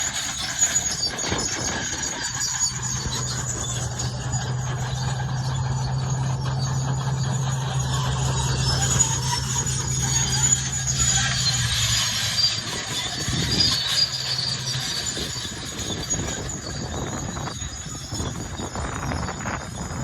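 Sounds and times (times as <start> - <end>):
bulldozer diesel engine running: 0.0 - 20.0
steel tracks squealing: 0.0 - 20.0.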